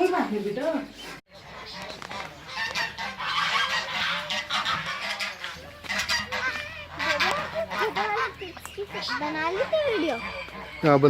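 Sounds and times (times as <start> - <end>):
poultry calling: 0.0 - 11.0.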